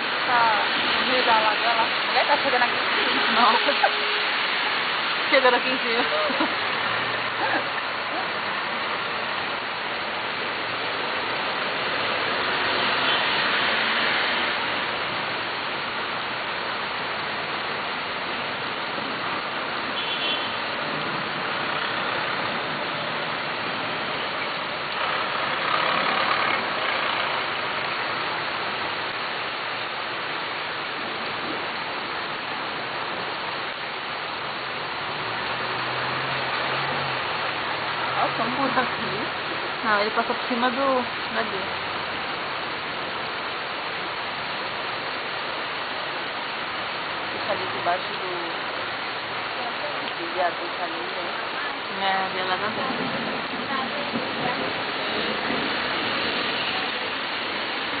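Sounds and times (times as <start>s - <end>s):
heavy rain: 0.0s - 58.0s
traffic on wet streets: 0.0s - 58.0s.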